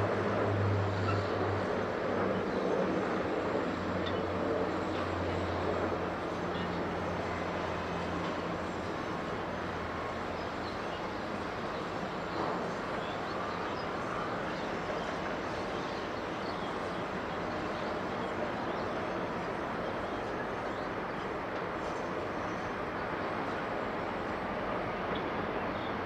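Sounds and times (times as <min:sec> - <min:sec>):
jet airliner engines rumbling: 0:00.0 - 0:26.0.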